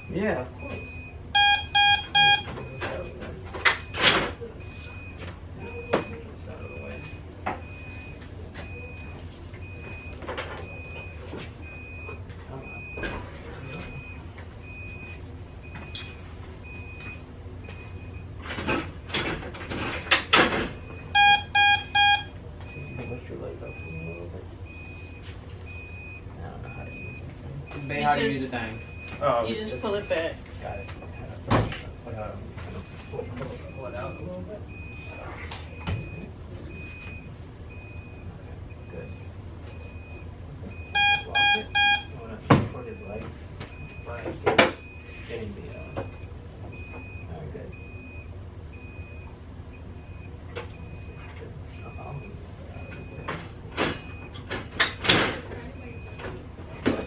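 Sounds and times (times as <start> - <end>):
hospital equipment beeping: 0.0 - 57.0.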